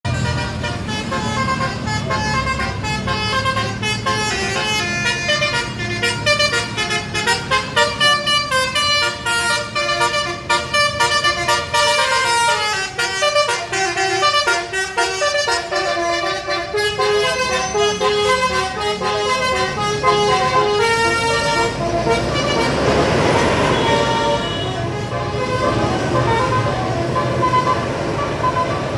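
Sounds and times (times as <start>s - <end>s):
bus engine rumble: 0.0s - 28.9s
multi-tone air horn tune: 0.1s - 28.9s.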